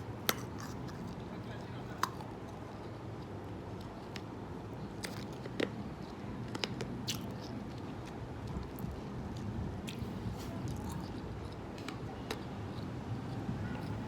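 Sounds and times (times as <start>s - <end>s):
low background noise: 0.0s - 14.0s
ice crunching while chewed: 0.2s - 14.0s.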